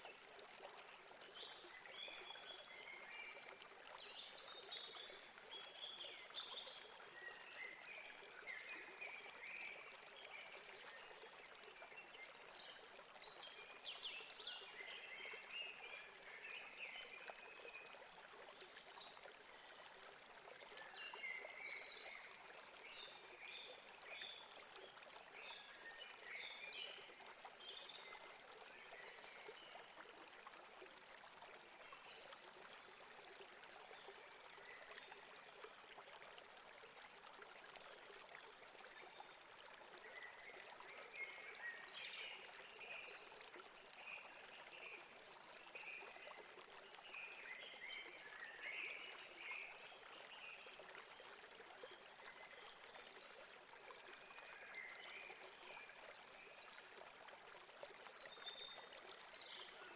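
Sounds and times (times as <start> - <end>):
stream trickling over rocks: 0.0 - 59.9.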